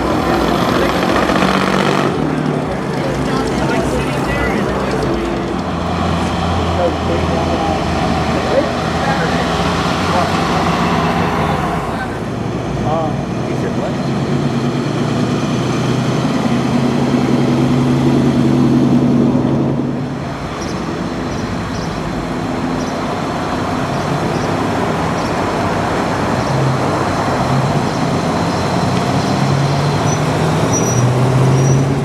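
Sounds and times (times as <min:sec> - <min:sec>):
car engine running: 0:00.0 - 0:30.8.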